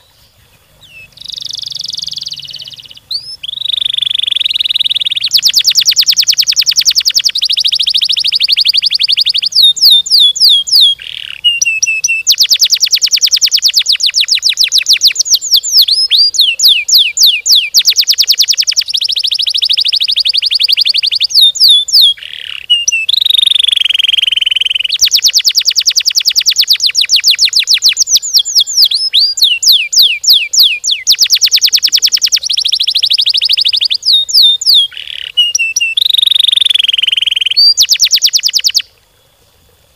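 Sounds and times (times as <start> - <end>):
canary singing trills and whistles: 0.0 - 38.9.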